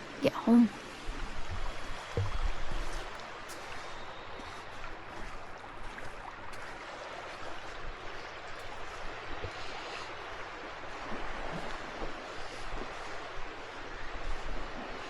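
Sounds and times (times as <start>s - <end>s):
small waves washing over rocks: 0.0s - 15.0s.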